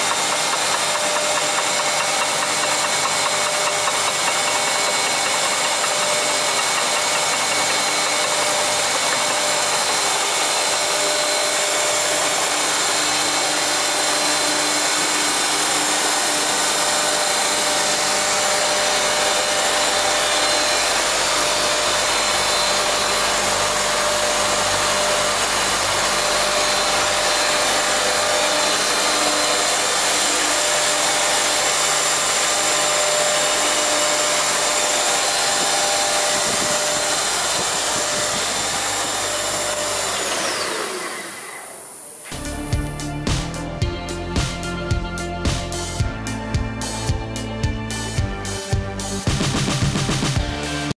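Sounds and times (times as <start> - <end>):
planer machine whine: 0.0 - 50.9.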